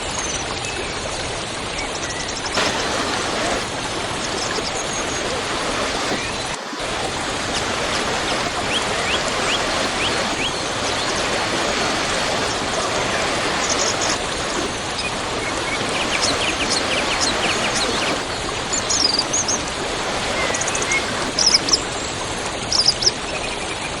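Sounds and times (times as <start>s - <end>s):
small birds chirping: 2.2s - 22.0s
waterfall rushing: 2.5s - 22.7s.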